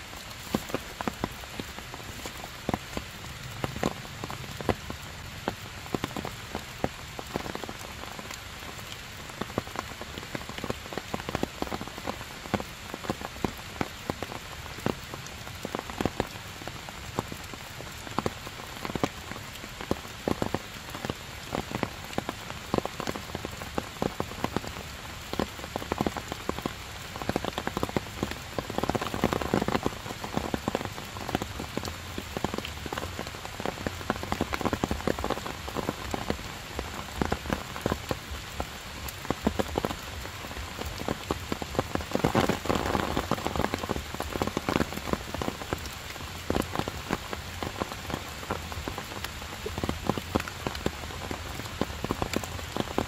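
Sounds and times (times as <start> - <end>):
heavy rain: 0.0 - 53.0
raindrops ticking: 0.0 - 53.0.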